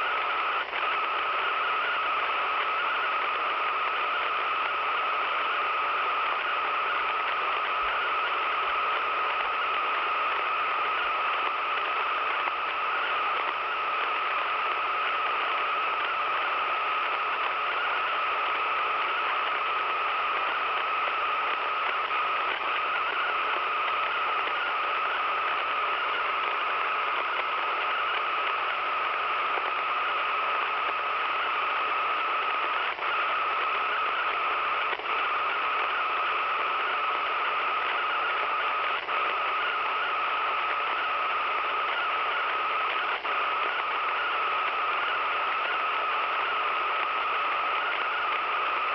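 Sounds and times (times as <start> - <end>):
radio interference sounds: 0.0 - 48.9
radio static hiss: 0.0 - 48.9.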